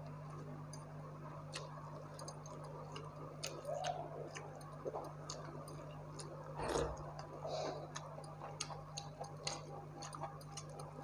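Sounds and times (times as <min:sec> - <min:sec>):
crunching crisp fried food: 0:00.0 - 0:11.0.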